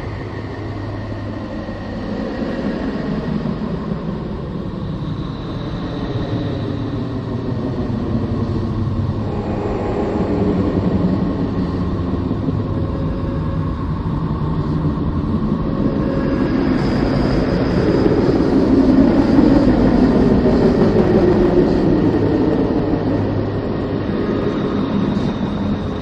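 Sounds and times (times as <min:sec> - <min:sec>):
deep rumbling space drone: 0:00.0 - 0:26.0.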